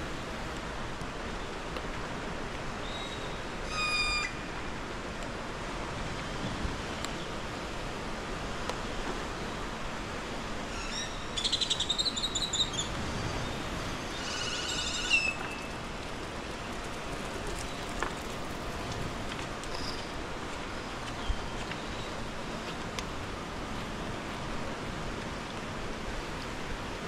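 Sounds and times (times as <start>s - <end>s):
steady hiss of rain: 0.0s - 27.0s.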